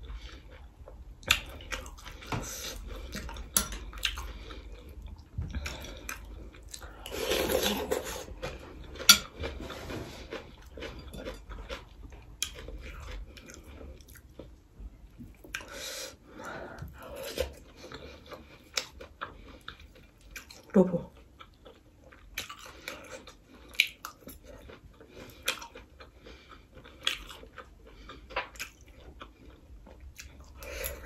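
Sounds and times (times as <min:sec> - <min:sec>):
chewing and crunching: 0:00.0 - 0:15.8, 0:16.9 - 0:31.0.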